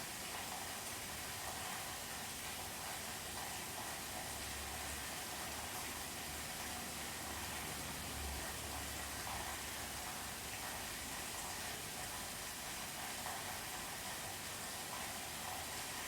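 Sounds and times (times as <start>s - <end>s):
steady rain heard from indoors: 0.0s - 16.0s.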